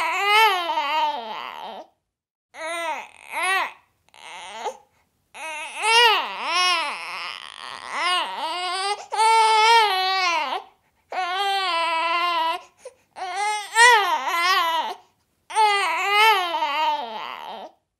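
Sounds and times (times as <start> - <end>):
baby whining: 0.0 - 2.0, 2.6 - 17.8.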